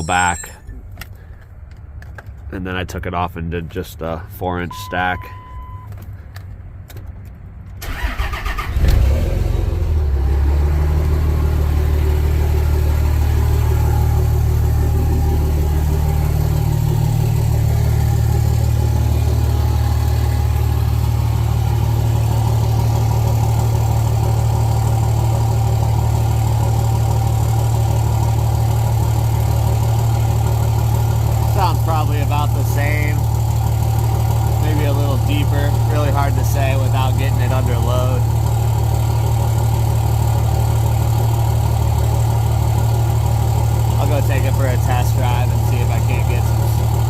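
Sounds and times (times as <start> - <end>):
diesel engine cranking and idling: 0.0 - 47.0.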